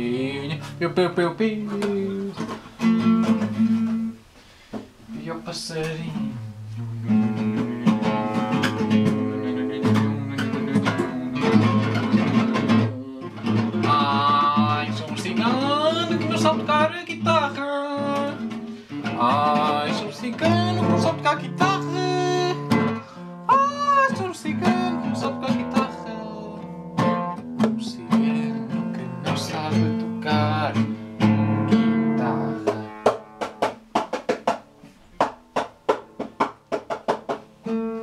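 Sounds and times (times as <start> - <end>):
acoustic guitar: 0.0 - 38.0.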